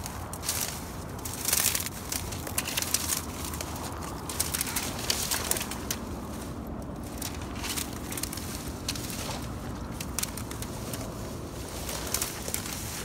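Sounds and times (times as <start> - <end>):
dry reeds crunching underfoot: 0.0 - 13.0.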